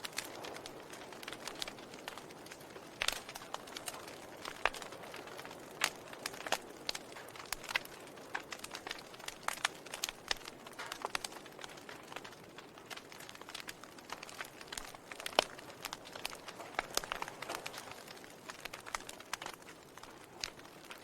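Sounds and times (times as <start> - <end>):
sharp pops and snaps: 0.0 - 21.0
wood fire crackling: 0.0 - 21.0.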